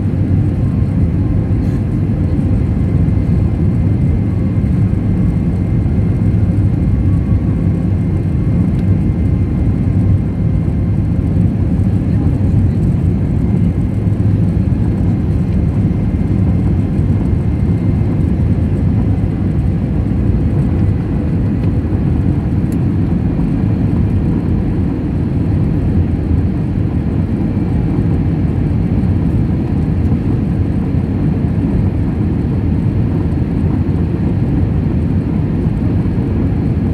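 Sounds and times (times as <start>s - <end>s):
jet airliner cabin roar: 0.0s - 36.9s.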